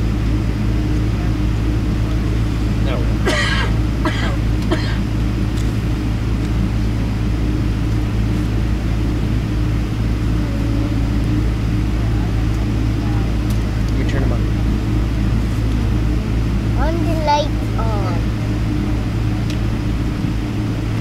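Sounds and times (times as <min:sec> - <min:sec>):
aircraft engine hum: 0:00.0 - 0:21.0
steady tone: 0:00.0 - 0:21.0.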